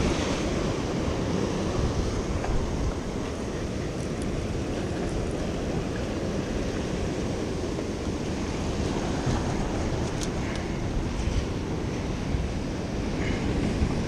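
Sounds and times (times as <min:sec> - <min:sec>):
surf breaking against rocks: 0:00.0 - 0:14.0
wind rumbling on microphone: 0:00.0 - 0:14.0.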